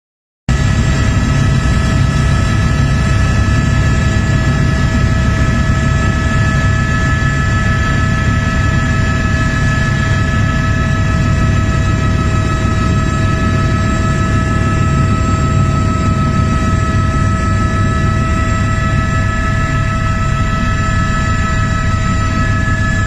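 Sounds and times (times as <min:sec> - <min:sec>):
helicopter engine and rotor drone: 0:00.5 - 0:23.0.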